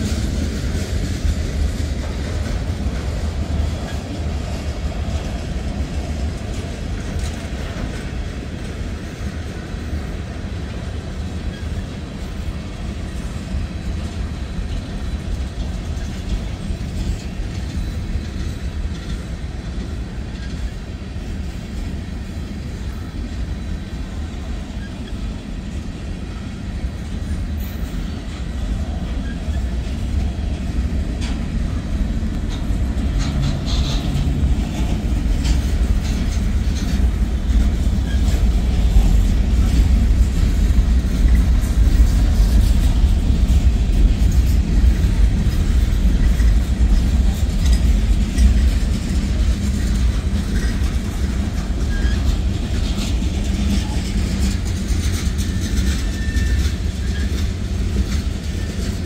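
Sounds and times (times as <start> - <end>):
freight train rumbling by: 0.0 - 59.0
wheels clicking on rails: 0.0 - 59.0.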